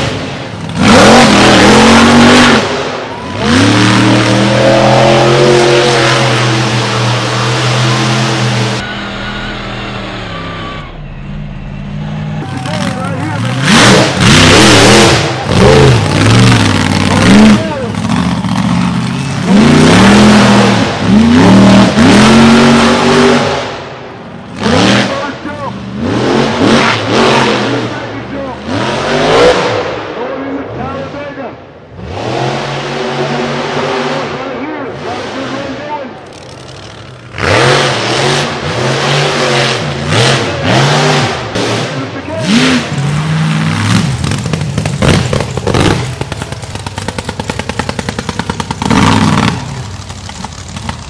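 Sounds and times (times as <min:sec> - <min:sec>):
truck engine revving hard: 0:00.0 - 0:30.3, 0:31.0 - 0:51.0.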